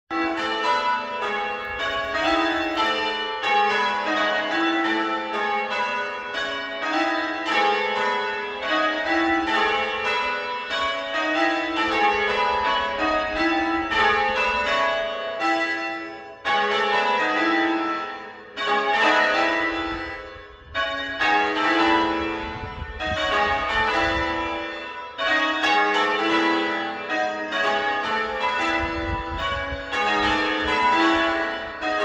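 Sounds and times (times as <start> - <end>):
church bells ringing: 0.1 - 32.0.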